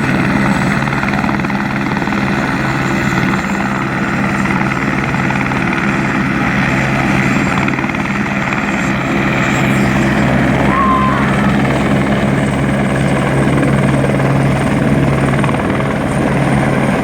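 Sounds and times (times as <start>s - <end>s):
helicopter engine hum: 0.0s - 17.0s
helicopter rotor beating: 0.0s - 17.0s.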